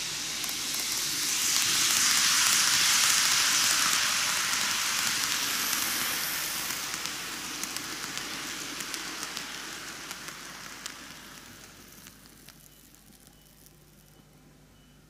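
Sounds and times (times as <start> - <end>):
model train wheels rattling: 0.0 - 13.7.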